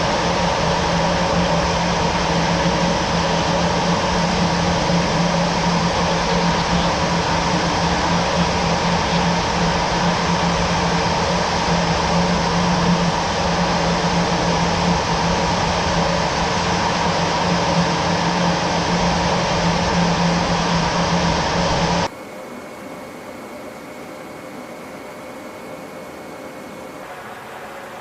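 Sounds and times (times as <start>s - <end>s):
jet engine running: 0.0s - 28.0s.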